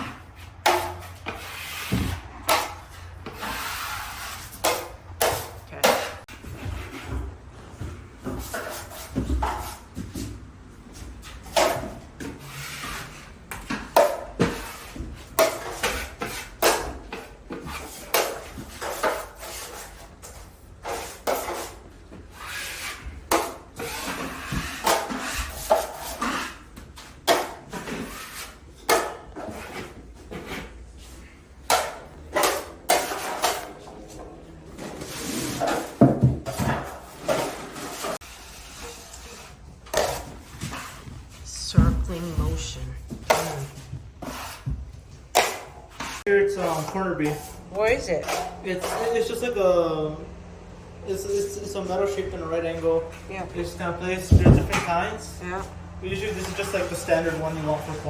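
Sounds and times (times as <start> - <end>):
drywall knife scraping: 0.0 - 7.3, 8.2 - 10.3, 10.9 - 41.6, 42.3 - 49.7, 56.1 - 58.0.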